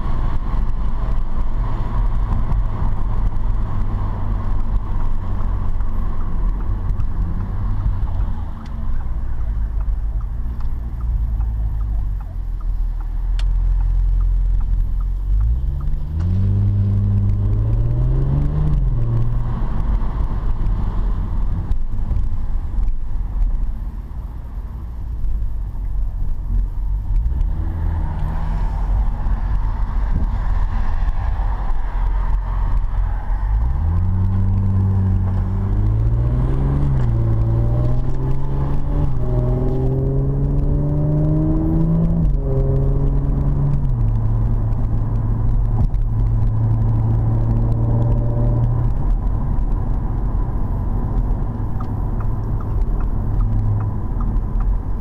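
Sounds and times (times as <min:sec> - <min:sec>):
car engine drone from cabin: 0:00.0 - 0:55.0
road noise: 0:00.0 - 0:55.0.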